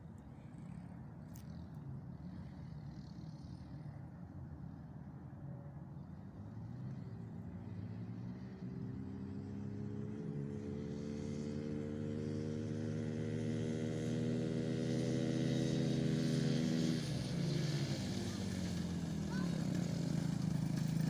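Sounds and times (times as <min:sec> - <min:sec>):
small engine passing by: 0:00.4 - 0:05.3, 0:06.0 - 0:21.0.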